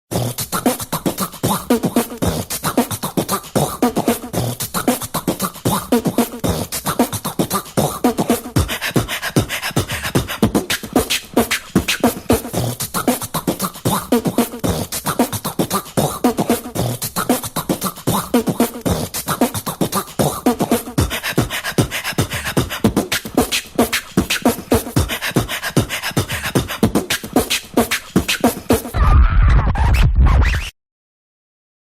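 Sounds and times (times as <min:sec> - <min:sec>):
person beatboxing: 0:00.1 - 0:30.7.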